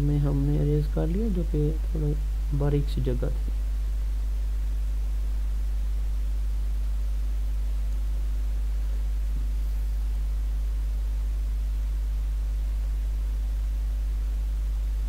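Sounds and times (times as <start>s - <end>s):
constant hiss: 0.0s - 15.0s
low electrical hum: 0.0s - 15.0s.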